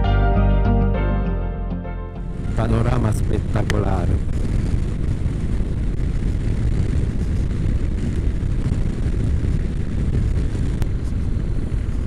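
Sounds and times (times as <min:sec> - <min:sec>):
motorcycle engine drone: 0:01.8 - 0:12.0
wind rushing on microphone: 0:02.2 - 0:12.0.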